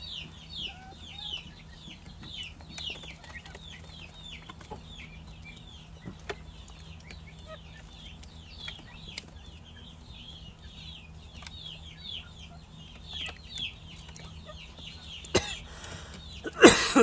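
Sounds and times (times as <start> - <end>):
low steady hum: 0.0 - 17.0
young pheasants peeping: 0.0 - 17.0.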